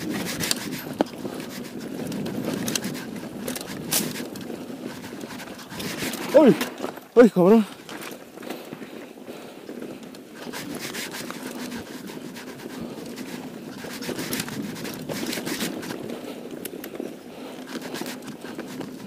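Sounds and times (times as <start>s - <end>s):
bike clicking and rattling: 0.0s - 19.0s
bike tyres crunching over gravel: 0.0s - 19.0s.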